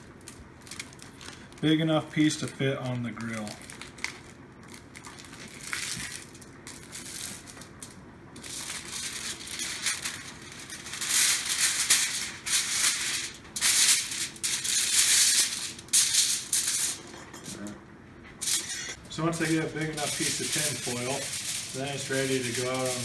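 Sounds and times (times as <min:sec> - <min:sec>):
aluminium foil crinkling: 0:00.0 - 0:17.1, 0:18.4 - 0:23.0.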